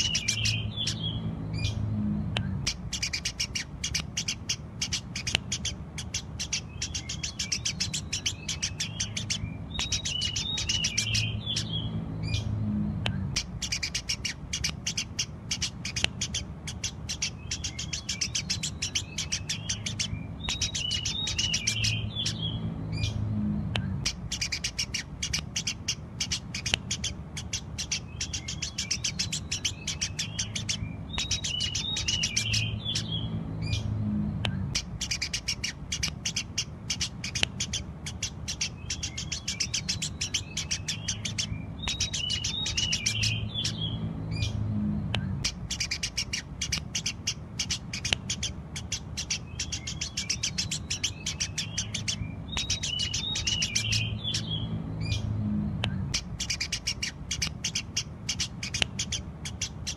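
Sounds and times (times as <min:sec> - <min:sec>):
sparrows chirping: 0:00.0 - 0:59.9
sparrows twittering: 0:00.0 - 0:59.9.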